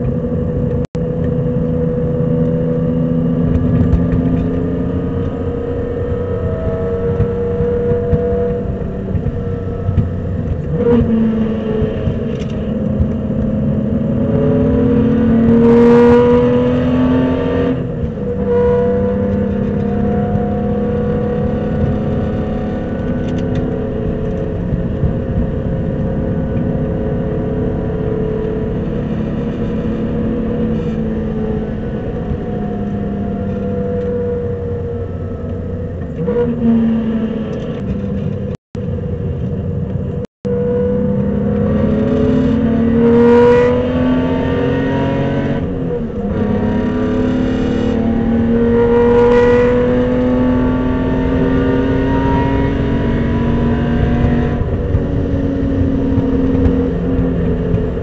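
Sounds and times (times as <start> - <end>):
race car engine revving: 0.0 - 38.5, 40.5 - 58.0.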